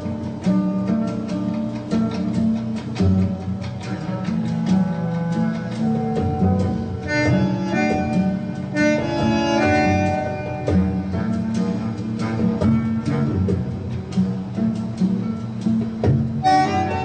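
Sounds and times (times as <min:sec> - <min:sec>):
acoustic instrumental music: 0:00.0 - 0:17.0.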